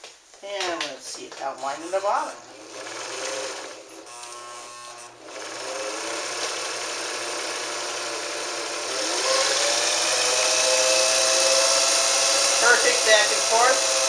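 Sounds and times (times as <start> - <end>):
sewing machine motor whirring: 2.0 - 14.0.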